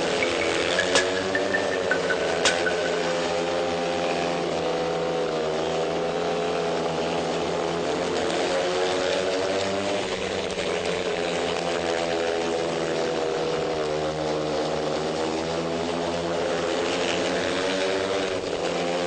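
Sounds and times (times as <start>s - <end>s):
motorcycle engines revving high: 0.0s - 19.0s.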